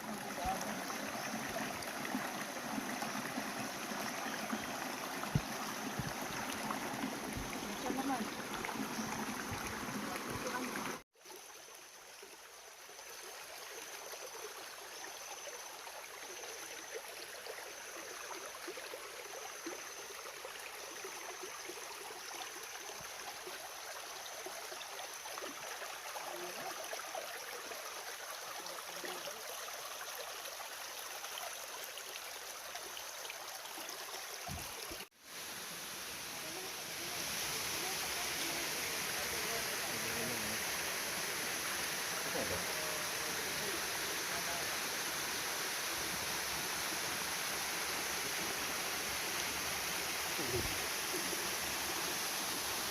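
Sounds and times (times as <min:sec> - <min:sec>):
flowing stream water: 0:00.0 - 0:52.9.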